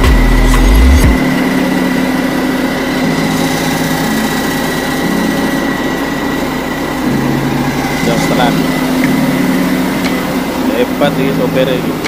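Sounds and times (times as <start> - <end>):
steady high tone: 0.0 - 12.0
truck engine idling: 0.0 - 12.0.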